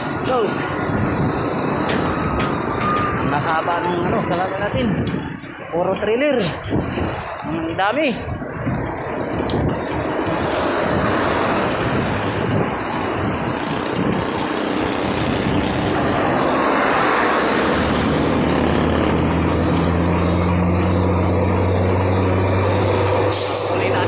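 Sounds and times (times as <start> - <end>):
heavy road traffic rushing: 0.0 - 24.0
truck engine humming: 0.0 - 24.0.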